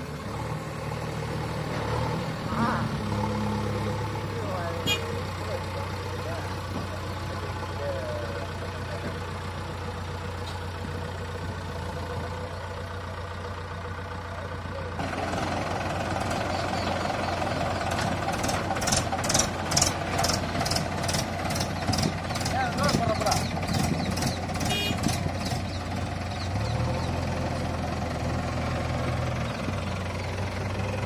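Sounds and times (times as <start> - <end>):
diesel engine running: 0.0 - 31.0
tractor engine idling: 0.0 - 31.0.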